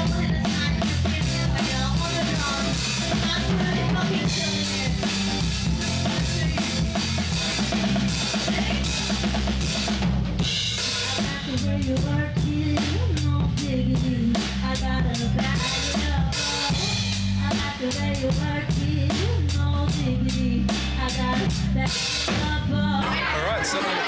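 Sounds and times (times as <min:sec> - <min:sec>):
drum kit playing: 0:00.0 - 0:24.0
rock band playing: 0:00.0 - 0:24.0.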